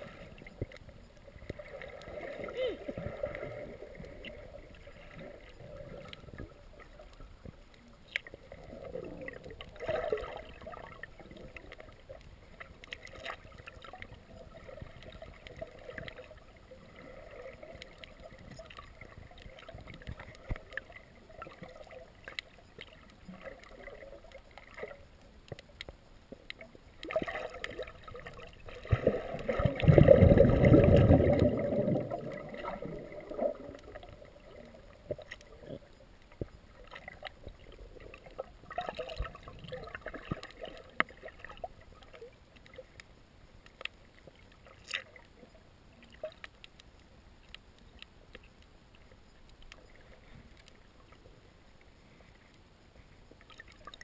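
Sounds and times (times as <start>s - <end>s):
low rushing water rumble: 0.0s - 46.1s
faint underwater hum: 0.0s - 54.0s
small clicks and ticks: 0.1s - 2.3s, 3.0s - 30.4s, 31.3s - 54.0s.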